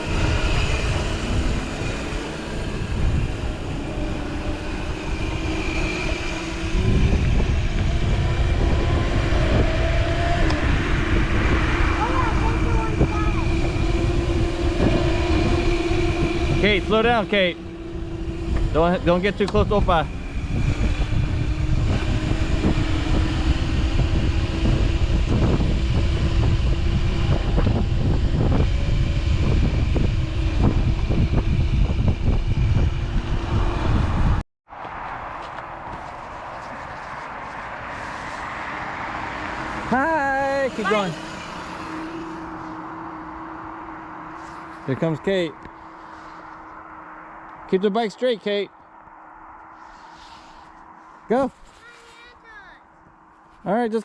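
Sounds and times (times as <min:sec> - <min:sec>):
electric motorbike motor whining: 0:00.0 - 0:34.4, 0:35.8 - 0:47.8
wind rumble on microphone: 0:00.0 - 0:47.8.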